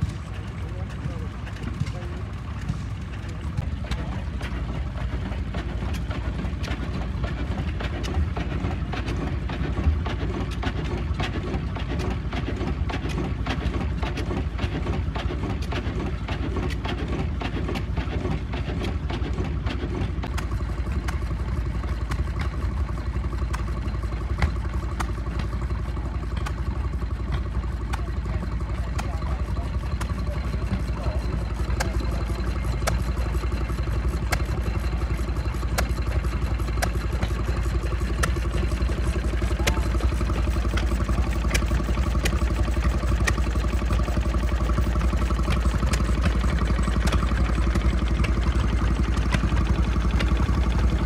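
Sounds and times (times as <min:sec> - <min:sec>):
stationary engines chugging: 0:00.0 - 0:51.0.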